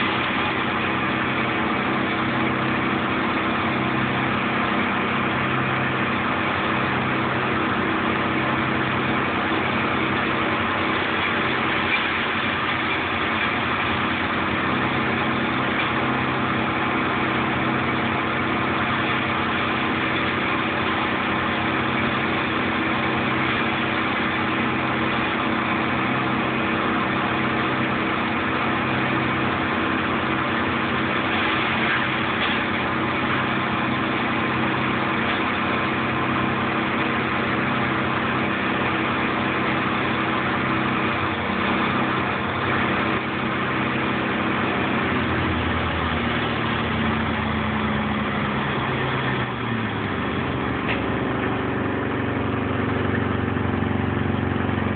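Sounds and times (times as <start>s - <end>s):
wood chipper engine running: 0.0s - 54.9s.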